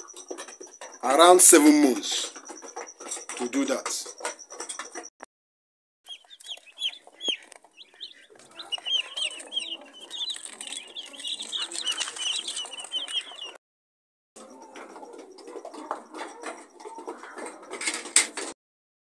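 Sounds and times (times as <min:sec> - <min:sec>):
baby chicks peeping: 0:00.0 - 0:05.1, 0:06.1 - 0:13.6, 0:14.4 - 0:18.4.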